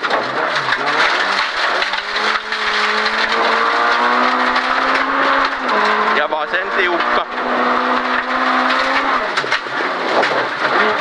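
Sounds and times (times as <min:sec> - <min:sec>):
gravel and tyre noise: 0:00.0 - 0:11.0
rally car engine running hard: 0:00.0 - 0:11.0.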